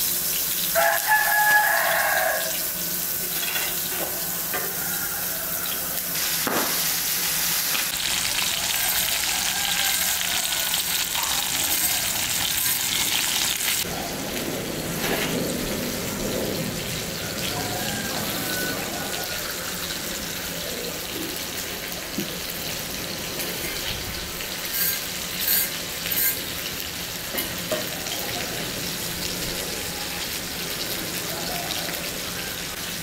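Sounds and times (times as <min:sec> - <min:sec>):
fish sizzling in hot oil: 0:00.0 - 0:13.9, 0:15.5 - 0:33.0.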